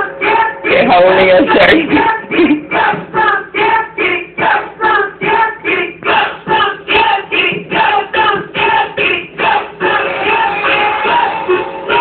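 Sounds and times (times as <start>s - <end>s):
group singing rhythmically: 0.0s - 12.0s.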